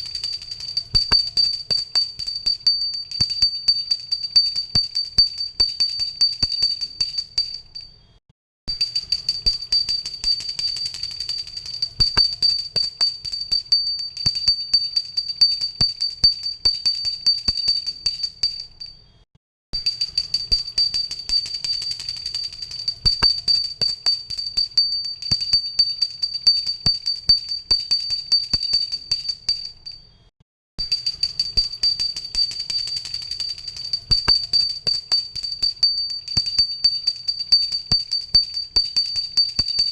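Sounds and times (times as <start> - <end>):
hand bell rung rapidly: 0.0 - 7.9, 8.7 - 19.0, 19.8 - 30.0, 30.8 - 39.9.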